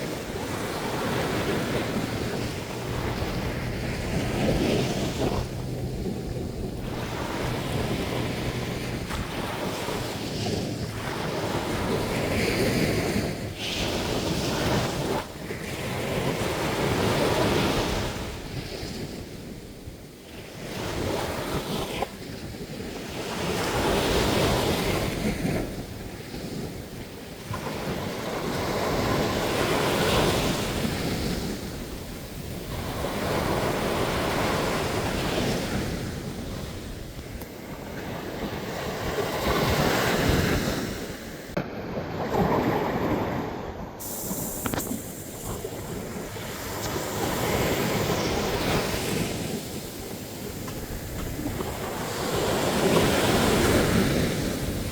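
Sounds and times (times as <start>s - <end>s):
sea surf breaking on a beach: 0.0s - 54.9s.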